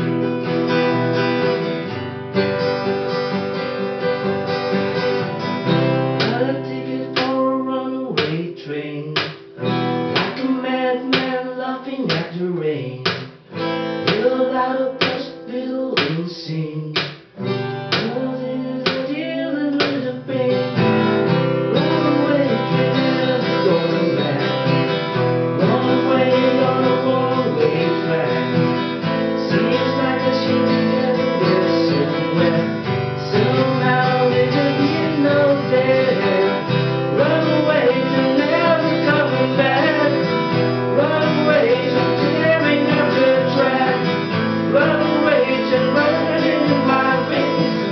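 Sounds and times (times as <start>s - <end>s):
acoustic guitar strumming: 0.0s - 47.9s
person singing: 6.1s - 9.5s, 10.2s - 13.3s, 14.0s - 17.1s, 17.9s - 21.1s, 21.7s - 24.9s, 25.5s - 47.9s.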